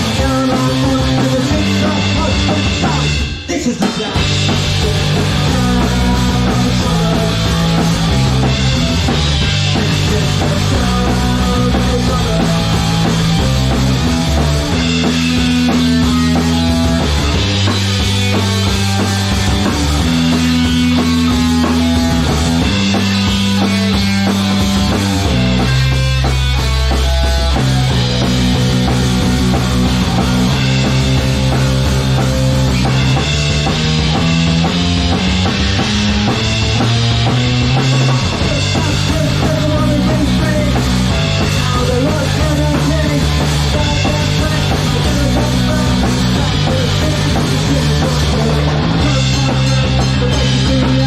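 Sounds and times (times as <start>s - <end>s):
electric guitar: 0.0s - 51.0s
punk rock drum kit: 0.0s - 51.0s
bass guitar held notes: 4.2s - 51.0s.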